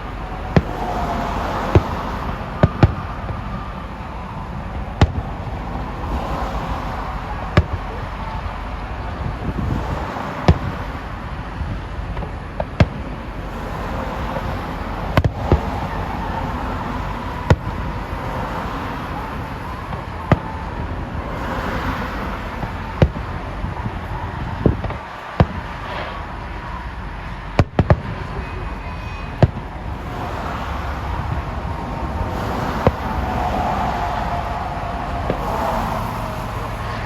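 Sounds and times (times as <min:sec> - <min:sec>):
background rumble and hiss: 0:00.0 - 0:37.0.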